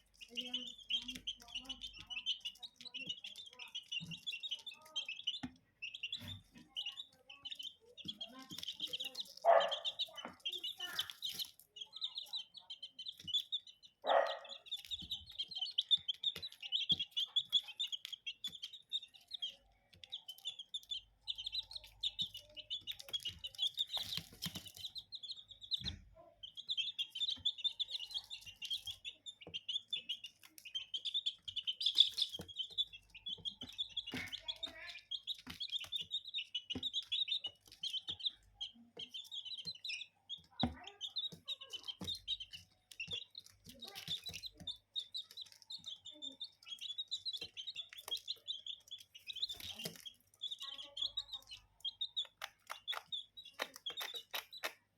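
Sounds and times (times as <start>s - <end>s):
baby chicks peeping: 0.0s - 54.9s
chicks pecking at feed: 0.0s - 54.9s.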